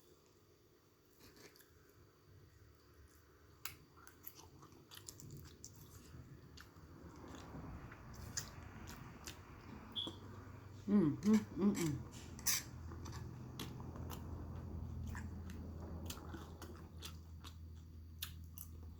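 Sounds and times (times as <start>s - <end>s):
person chewing food: 2.8s - 10.9s, 11.7s - 18.9s.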